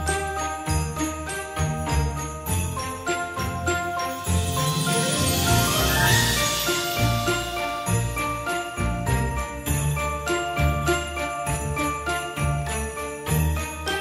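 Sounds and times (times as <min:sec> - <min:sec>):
festive holiday song with sleigh bells: 0:00.0 - 0:14.0.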